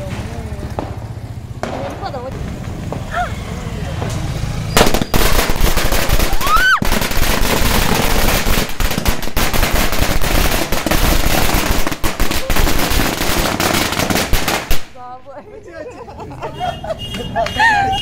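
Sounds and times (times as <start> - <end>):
firecrackers crackling: 0.0 - 15.2.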